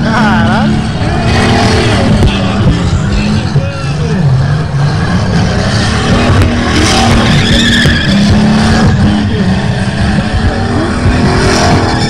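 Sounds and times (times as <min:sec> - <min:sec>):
car engine at high revs: 0:00.0 - 0:12.0
tyres screeching: 0:00.0 - 0:12.0.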